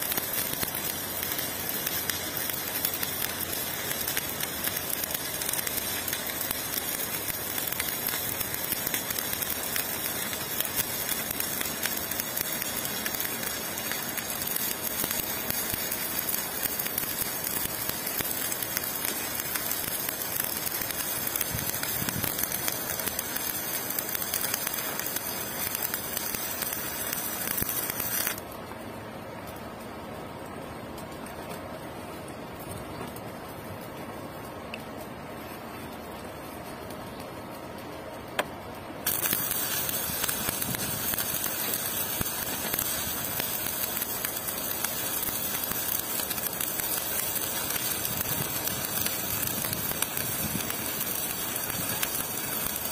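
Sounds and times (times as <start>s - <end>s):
welding arc crackling sizzle: 0.0s - 52.9s.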